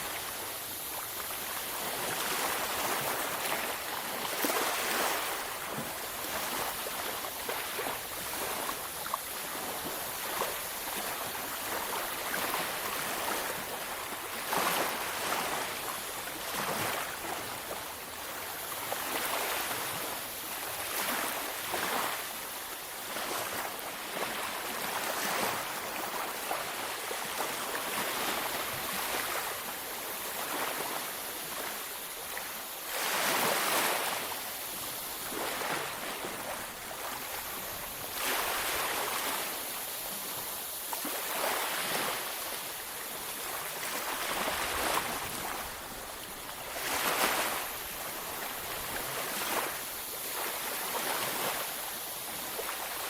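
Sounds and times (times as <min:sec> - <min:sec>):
sea waves breaking on beach: 0:00.0 - 0:53.0.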